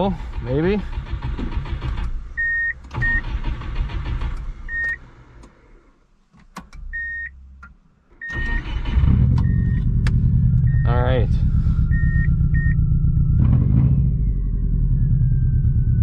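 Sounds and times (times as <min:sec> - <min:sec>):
car engine cranking and starting: 0:00.0 - 0:16.0.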